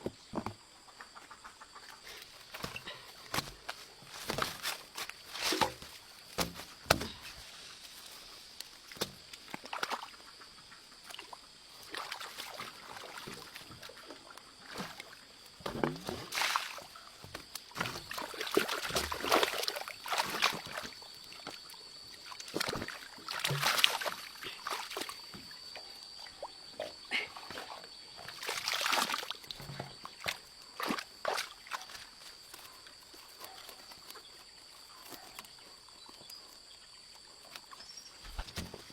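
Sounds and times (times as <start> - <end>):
water splashing and sloshing: 1.8 - 38.9.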